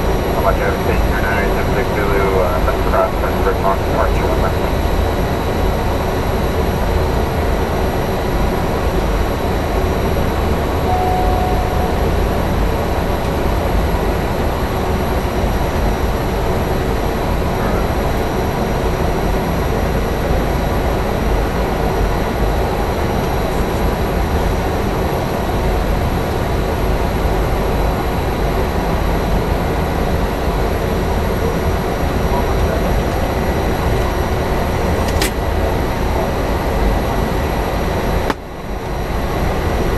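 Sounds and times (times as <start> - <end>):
turboprop engine idling: 0.0 - 39.9.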